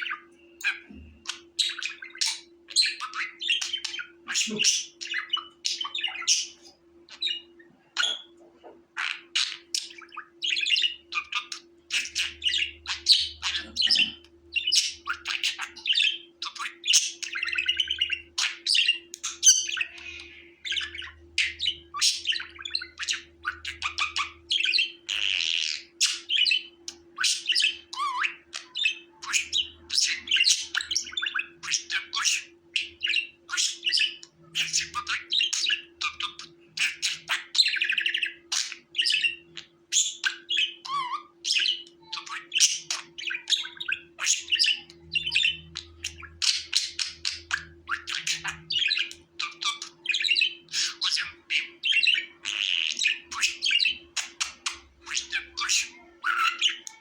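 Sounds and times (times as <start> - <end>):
budgerigar chattering and warbling: 0.0 - 57.0
faint steady hum: 0.0 - 57.0.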